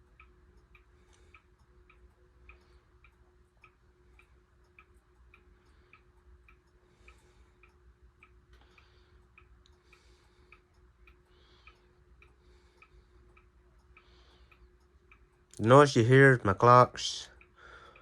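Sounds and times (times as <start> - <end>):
ceiling fan hum: 0.0 - 18.0
clocks ticking: 0.0 - 18.0.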